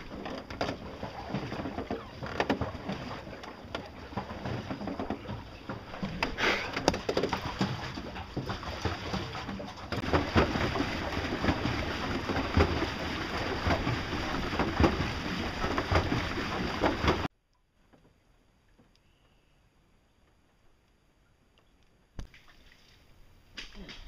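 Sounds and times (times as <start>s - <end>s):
water splashing along boat hull: 0.0s - 18.9s, 22.2s - 24.0s.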